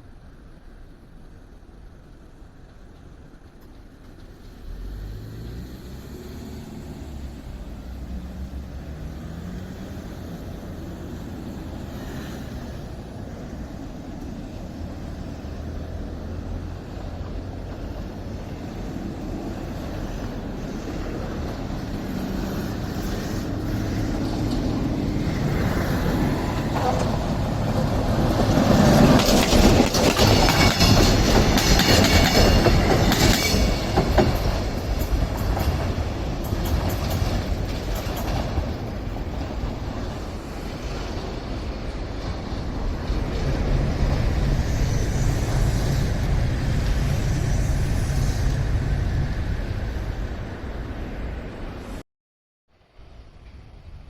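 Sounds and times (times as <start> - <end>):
train approaching: 0.0 - 52.0
wheels clattering on rail: 2.0 - 5.6, 6.9 - 47.8.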